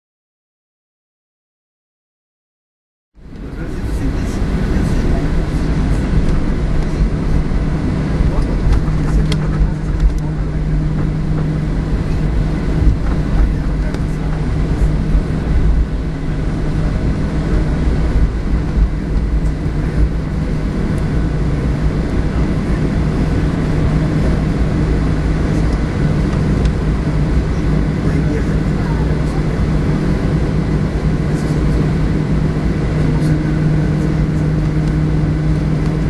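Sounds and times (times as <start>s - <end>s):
jet engines humming: 3.2s - 36.0s
low rumble: 3.2s - 36.0s.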